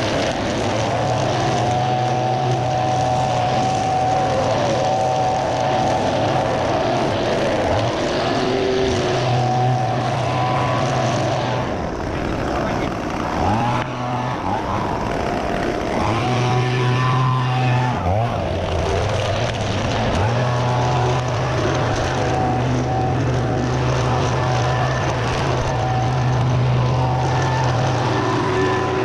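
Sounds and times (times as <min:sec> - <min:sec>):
string trimmer cutting grass: 0:00.0 - 0:29.0.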